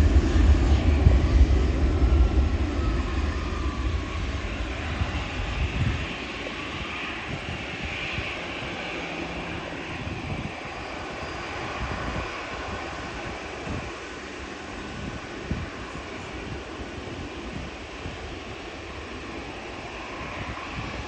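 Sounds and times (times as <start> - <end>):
airliner passing overhead: 0.0 - 21.0.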